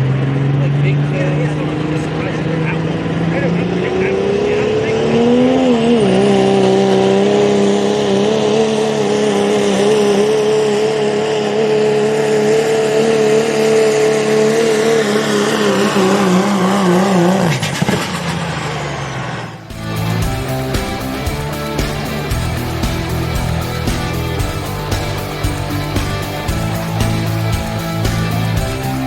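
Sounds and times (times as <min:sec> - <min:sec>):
diesel truck engine at high revs: 0:00.0 - 0:29.0.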